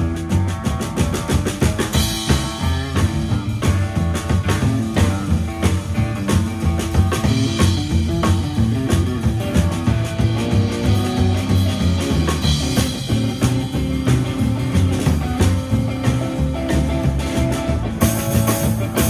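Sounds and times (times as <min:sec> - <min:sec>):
drum kit beat: 0:00.0 - 0:19.0
electric guitar: 0:00.0 - 0:19.0
upright bass: 0:00.0 - 0:19.0.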